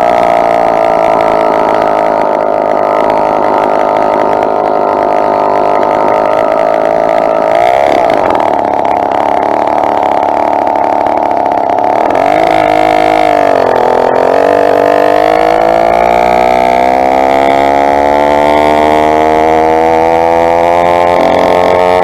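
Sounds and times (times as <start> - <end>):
two-stroke bicycle engine buzzing: 0.0 - 22.0.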